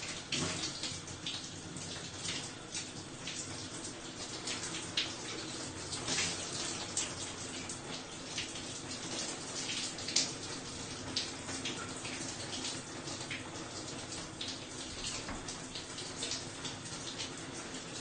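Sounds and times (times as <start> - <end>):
shower water running: 0.0 - 18.0.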